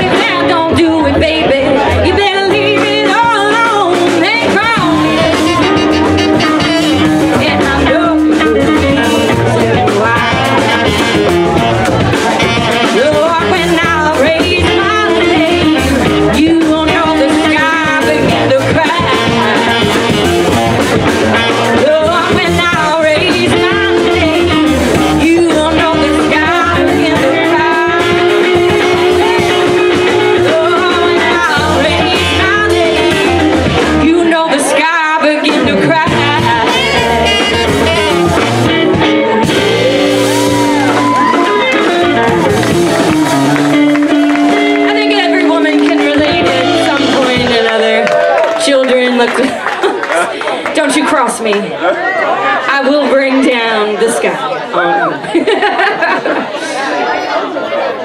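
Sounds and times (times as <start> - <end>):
woman singing: 0.0 - 11.4, 12.5 - 20.5, 21.4 - 42.8, 43.8 - 51.7
saxophone: 0.0 - 48.2
electric guitar: 0.0 - 55.4
upright bass: 0.0 - 55.4
drums: 0.0 - 56.9.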